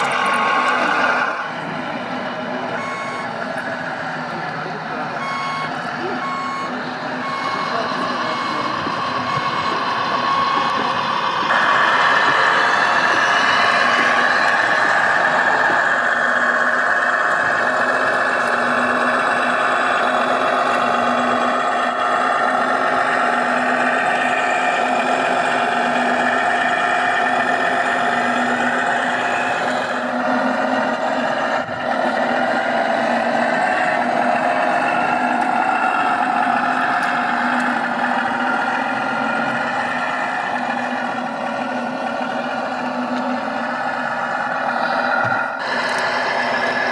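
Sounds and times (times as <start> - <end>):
simulated truck engine from speaker: 0.0 - 46.9.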